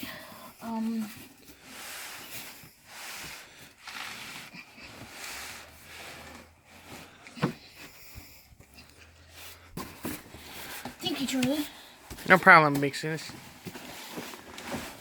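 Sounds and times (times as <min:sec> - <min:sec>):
cardboard box rustling and scraping: 0:00.7 - 0:08.3, 0:09.2 - 0:15.0.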